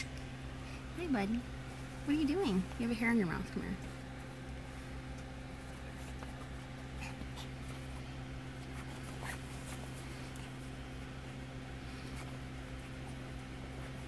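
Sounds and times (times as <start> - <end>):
steady low hum: 0.0 - 14.0
bedding scratching and rustling: 1.6 - 14.0.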